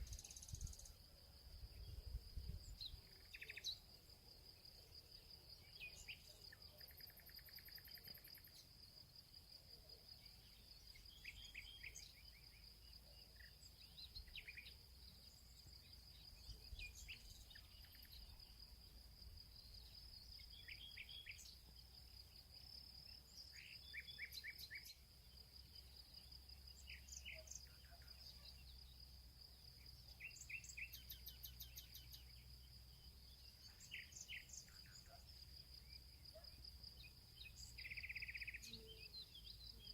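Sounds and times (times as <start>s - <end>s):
faint insect trill: 0.0s - 39.9s.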